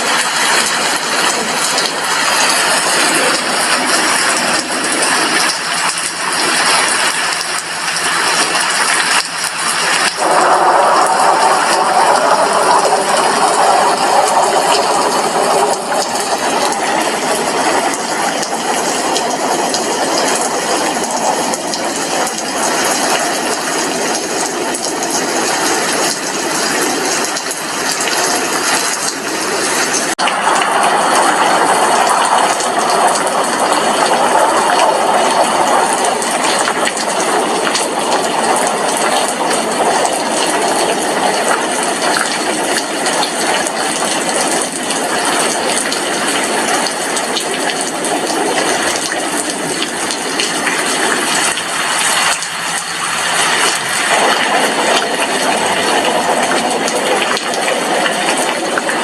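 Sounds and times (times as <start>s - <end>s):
heavy rain on a glass window: 0.0s - 59.0s.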